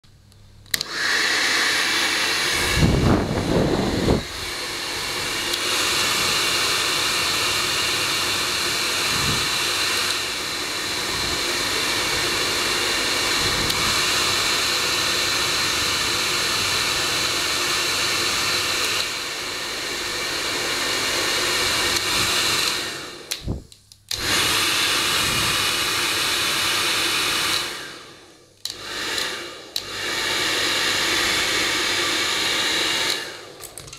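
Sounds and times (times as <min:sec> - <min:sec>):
hair dryer blowing: 0:00.7 - 0:33.8.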